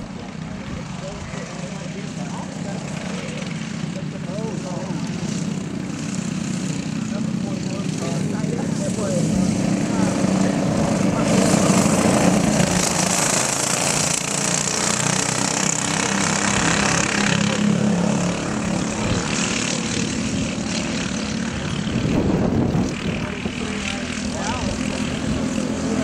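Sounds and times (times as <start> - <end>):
go-kart engines buzzing: 0.0 - 26.0.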